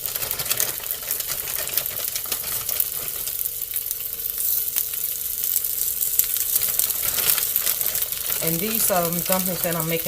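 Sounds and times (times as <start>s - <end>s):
dumplings sizzling in oil: 0.0s - 10.0s.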